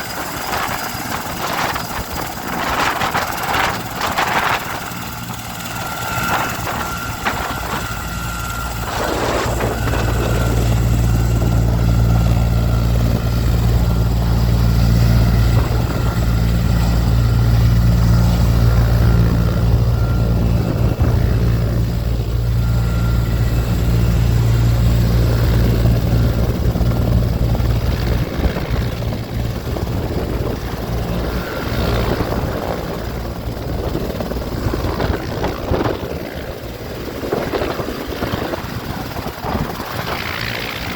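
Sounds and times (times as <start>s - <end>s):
helicopter rotor beat: 0.0s - 40.9s
high turbine whine: 0.0s - 40.9s.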